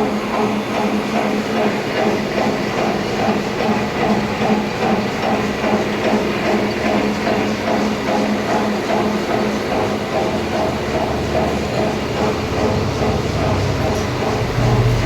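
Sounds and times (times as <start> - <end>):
lathe humming with rhythmic pulsing: 0.0 - 15.0.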